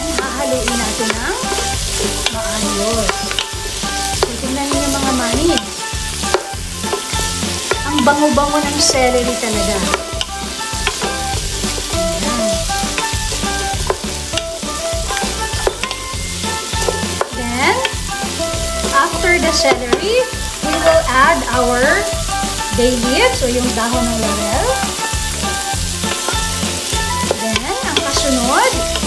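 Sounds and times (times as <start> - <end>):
wooden spoon scraping a pot: 0.0 - 23.4
vegetables sizzling in a pot: 0.0 - 29.0.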